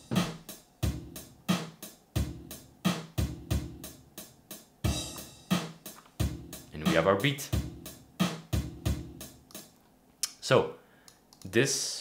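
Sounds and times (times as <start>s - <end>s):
drum machine beat: 0.0s - 9.7s.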